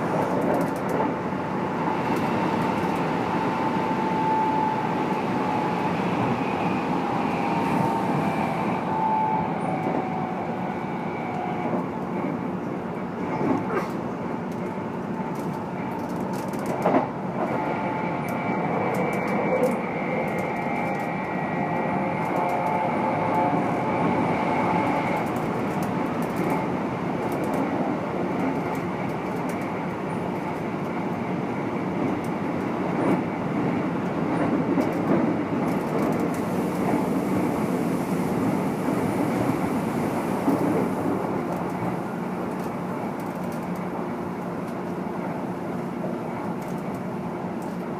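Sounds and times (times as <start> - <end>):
rail joint clicks: 0.0 - 6.4, 7.0 - 47.9
train running noise: 0.0 - 47.9.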